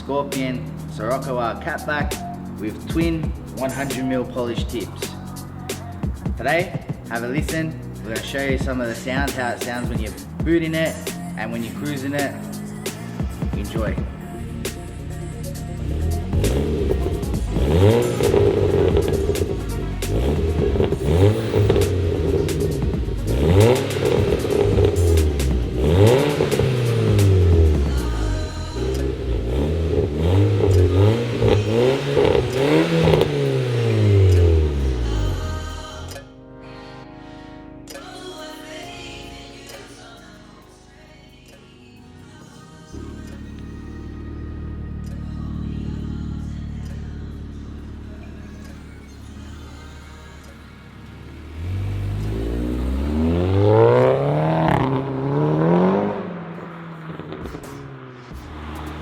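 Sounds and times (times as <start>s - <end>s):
car engine revving: 0.0s - 36.2s, 42.9s - 59.0s.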